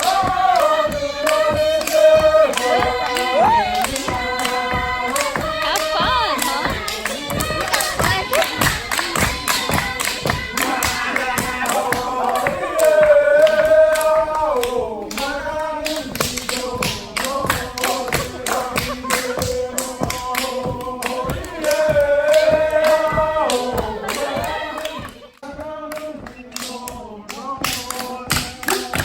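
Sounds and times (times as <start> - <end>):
group singing long notes: 0.0 - 29.0
rhythmic beats: 0.0 - 29.0.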